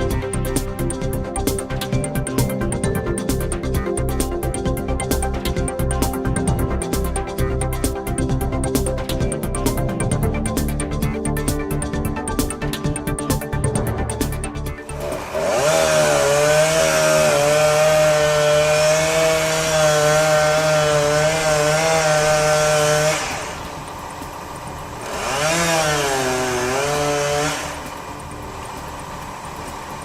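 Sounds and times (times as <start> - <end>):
chainsaw cutting through tree: 0.0 - 30.0.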